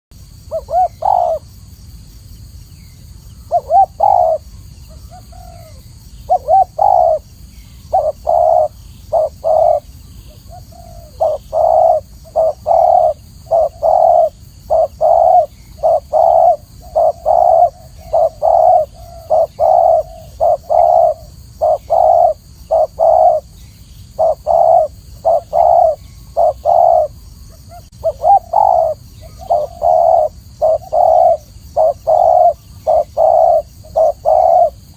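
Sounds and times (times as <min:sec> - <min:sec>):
dove cooing: 0:00.4 - 0:01.5, 0:03.5 - 0:34.9.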